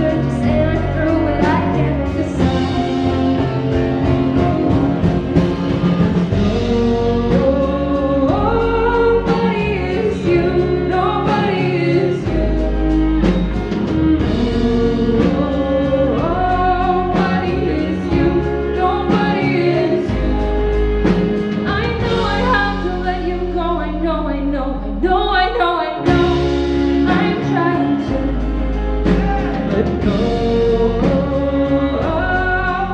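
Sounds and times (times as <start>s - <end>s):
band playing a song: 0.0s - 24.3s, 25.0s - 32.9s
held bass notes: 0.0s - 32.9s
person singing: 0.0s - 32.9s.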